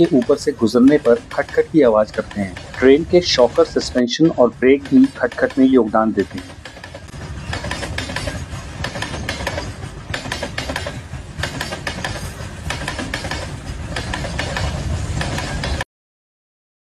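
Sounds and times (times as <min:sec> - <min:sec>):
train rumbling on rails: 0:00.0 - 0:15.8
wheels clattering over rail joints: 0:00.0 - 0:15.8.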